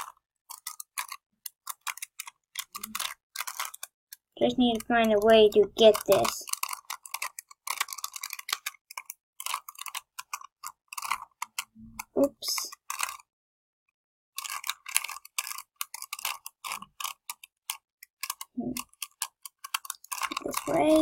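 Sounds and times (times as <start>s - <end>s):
puzzle cube clicking: 0.0s - 13.2s, 14.4s - 21.0s.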